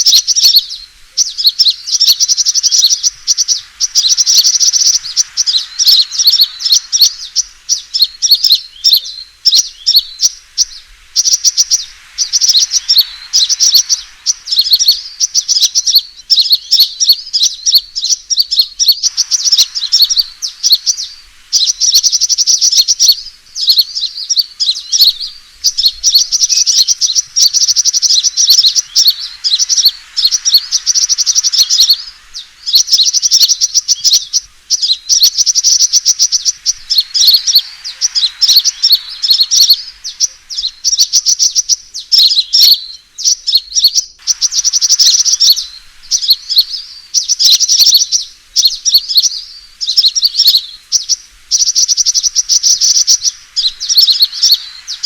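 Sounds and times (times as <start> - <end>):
birds chattering trills: 0.0 - 55.0.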